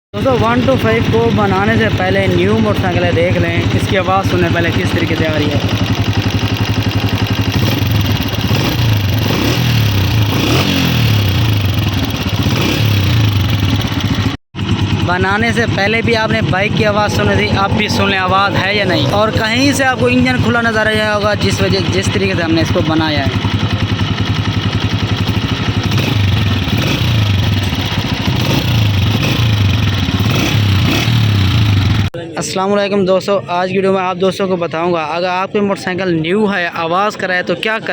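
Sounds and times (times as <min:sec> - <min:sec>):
motorcycle engine idling with ticking: 0:00.2 - 0:32.2
motorcycle engine revving: 0:00.2 - 0:32.2.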